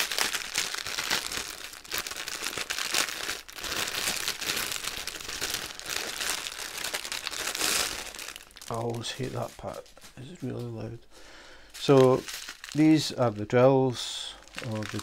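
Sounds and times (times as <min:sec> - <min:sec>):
plastic wrapping crinkling: 0:00.0 - 0:11.0, 0:11.6 - 0:15.0.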